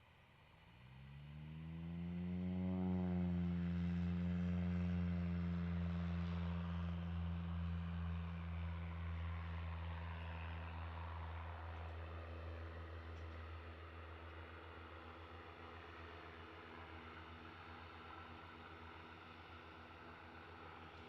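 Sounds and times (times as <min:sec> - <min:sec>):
propeller aircraft passing: 0:00.1 - 0:21.0.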